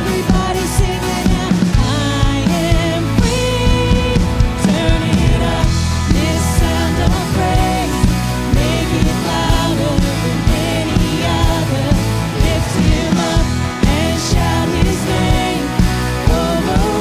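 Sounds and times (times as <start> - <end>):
person singing: 0.0 - 17.0
steady drum beat: 0.0 - 17.0.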